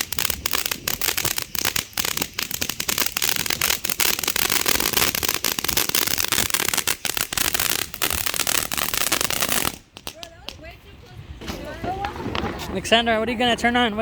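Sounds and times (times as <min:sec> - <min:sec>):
firework fountain crackling: 0:00.0 - 0:12.9.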